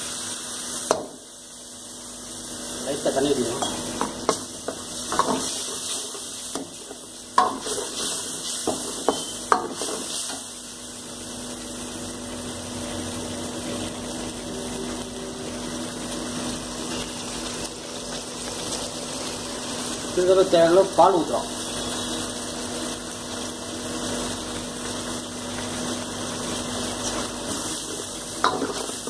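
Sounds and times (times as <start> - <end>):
gravy sizzling and bubbling: 0.0 - 29.0.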